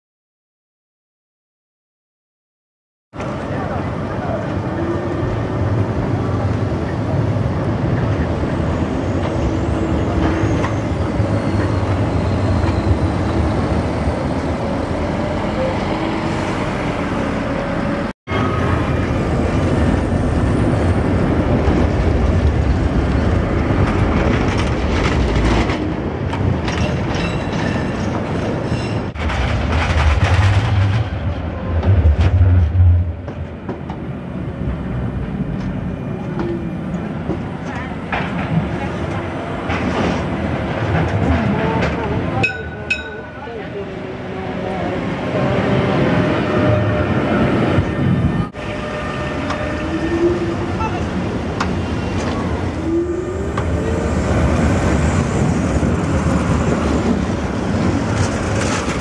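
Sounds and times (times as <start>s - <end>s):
tram rumbling on track: 3.1s - 59.0s
city traffic: 3.2s - 59.0s.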